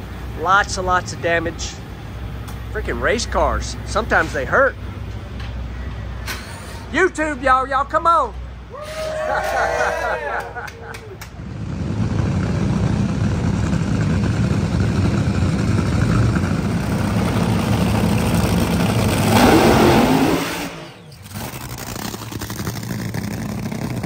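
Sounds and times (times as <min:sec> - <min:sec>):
dragster engine rumbling: 0:00.0 - 0:08.7, 0:09.3 - 0:24.0.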